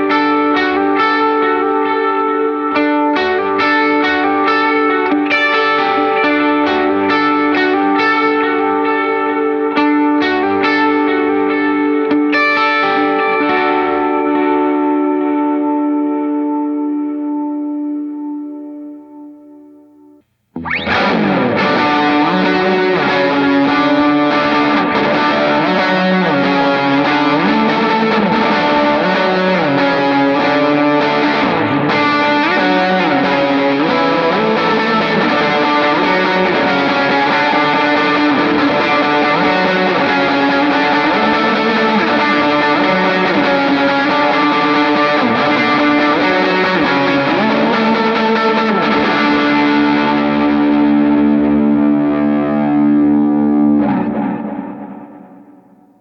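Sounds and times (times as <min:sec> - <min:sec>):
electric guitar with reverb: 0:00.0 - 0:56.0.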